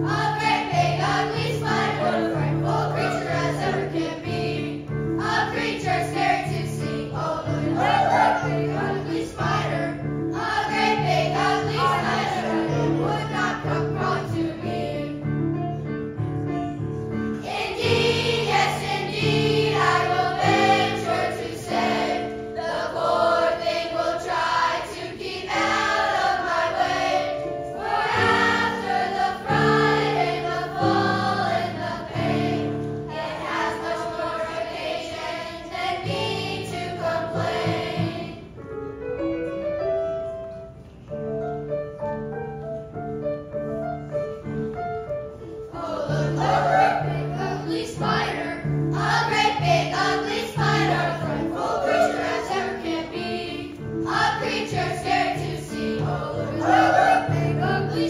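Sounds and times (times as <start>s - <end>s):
children's choir singing: 0.0s - 15.4s, 17.3s - 38.6s, 45.5s - 58.0s.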